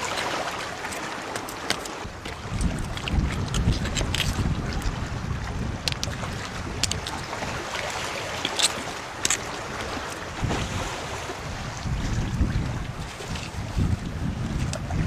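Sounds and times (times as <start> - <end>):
wind on microphone: 1.7 - 15.0.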